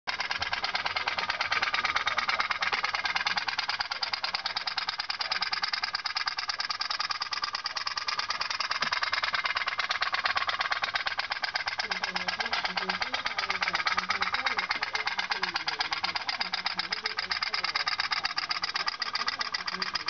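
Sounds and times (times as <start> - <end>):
toy steam boat engine popping: 0.1 - 20.0.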